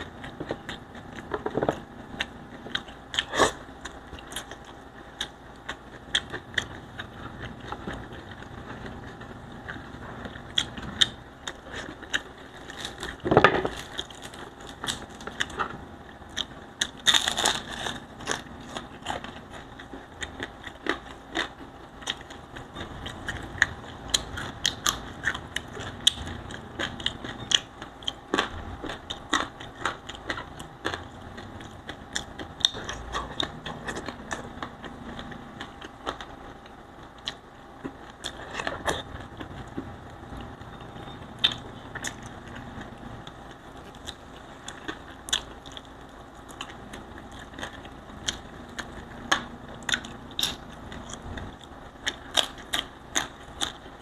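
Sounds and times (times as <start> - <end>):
chewing and crunching fried fish: 0.0 - 54.0.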